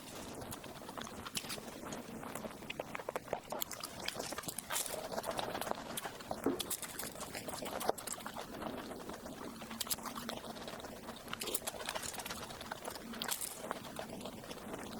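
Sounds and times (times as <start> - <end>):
wet mouth clicks and smacks: 0.0 - 14.8
chewing soft food: 0.0 - 14.9.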